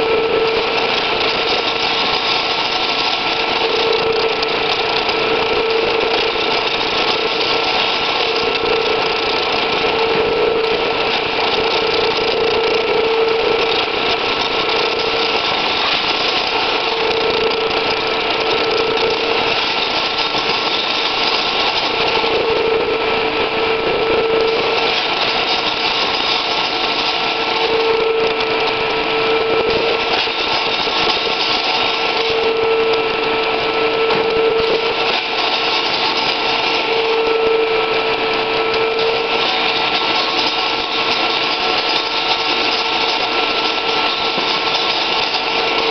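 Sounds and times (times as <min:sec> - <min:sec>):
edge-curling machine motor hum: 0:00.0 - 0:45.9.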